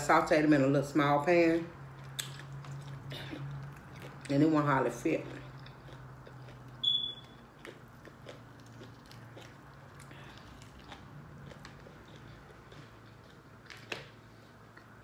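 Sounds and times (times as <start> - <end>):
close-up chewing: 1.9 - 15.0.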